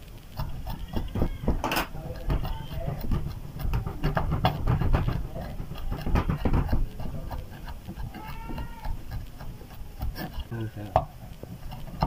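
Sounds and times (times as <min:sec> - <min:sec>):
knife chopping on wooden board: 0:00.4 - 0:12.0.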